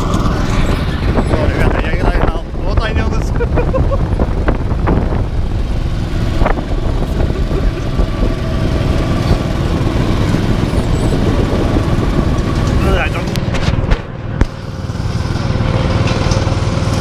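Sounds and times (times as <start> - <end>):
go-kart engine running: 0.0 - 17.0
low rumble: 0.0 - 17.0.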